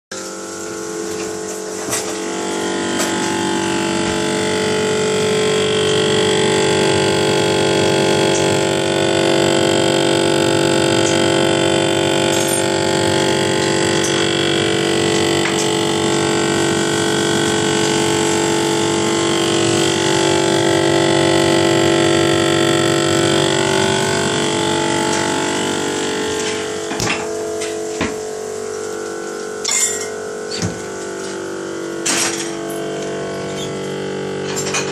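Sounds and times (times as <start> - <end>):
refrigerator rattling buzz: 0.1 - 34.9.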